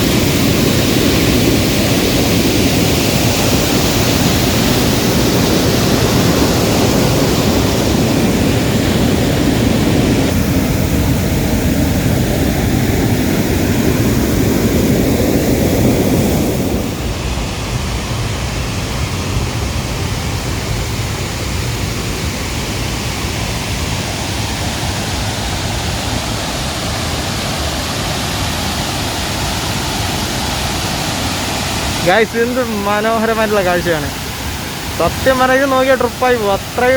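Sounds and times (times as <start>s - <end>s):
water rushing and churning: 0.0s - 36.9s.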